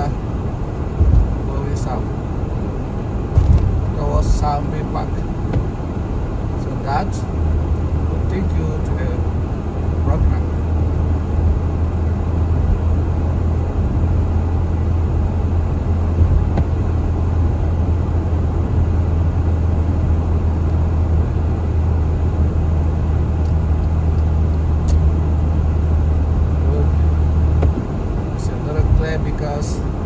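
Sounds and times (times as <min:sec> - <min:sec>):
car driving on wet road: 0:00.0 - 0:30.0.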